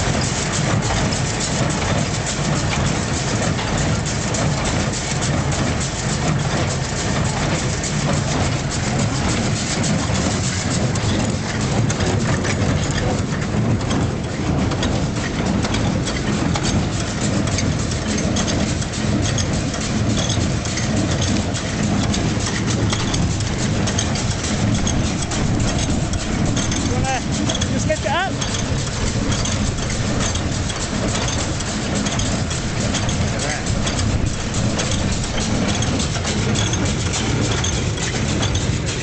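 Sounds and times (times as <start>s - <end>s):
baler mechanical clatter: 0.0s - 39.0s.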